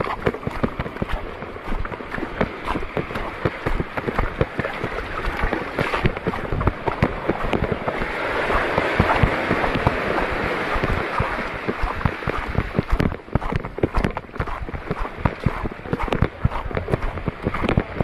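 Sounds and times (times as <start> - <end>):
footsteps splashing through water: 0.0 - 18.0
water rushing: 0.0 - 18.0.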